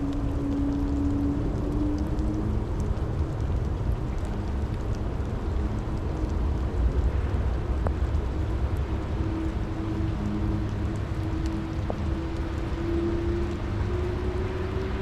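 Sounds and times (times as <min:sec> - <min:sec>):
constant low rumble: 0:00.0 - 0:15.0
steady rain falling: 0:00.0 - 0:15.0.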